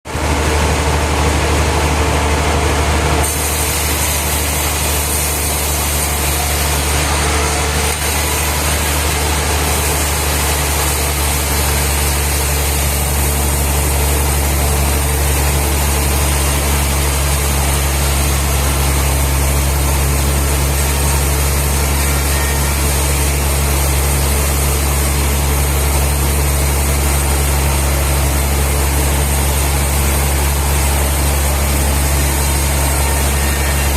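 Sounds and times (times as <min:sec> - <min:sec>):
sawmill machinery drone: 0:00.1 - 0:33.9.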